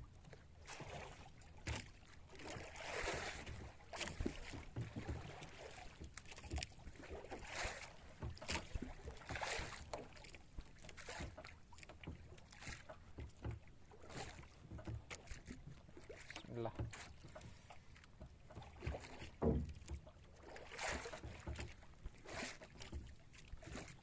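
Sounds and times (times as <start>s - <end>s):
water splashing against boat hull: 0.0s - 24.0s.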